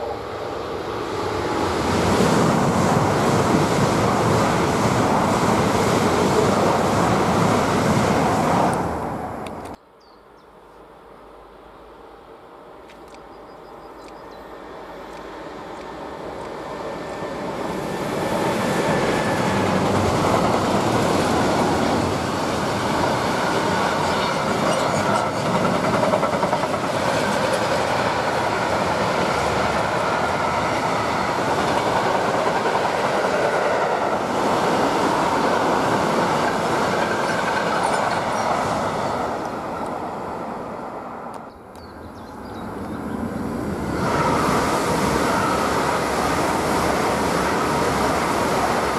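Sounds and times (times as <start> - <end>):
steel train wheels rolling on rails: 0.0 - 9.8, 13.3 - 41.5, 42.3 - 48.9.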